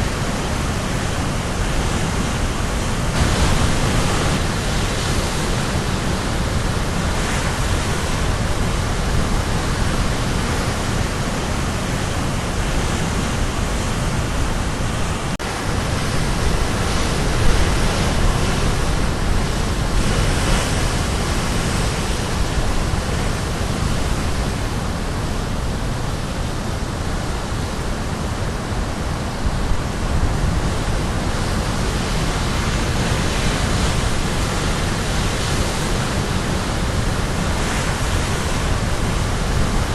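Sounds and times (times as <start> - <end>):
sea waves crashing on rocks: 0.0 - 39.9.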